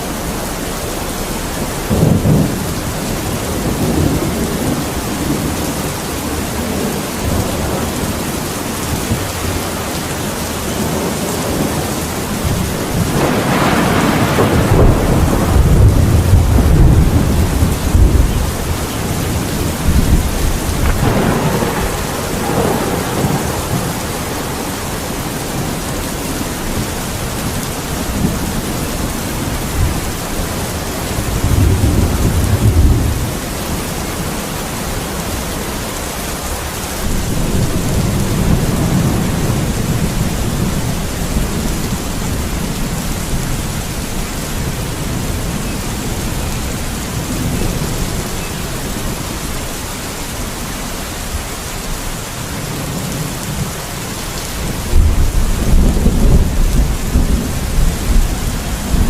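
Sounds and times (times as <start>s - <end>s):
rolling thunder: 0.0s - 50.4s, 52.6s - 59.0s
heavy rain: 0.0s - 59.0s.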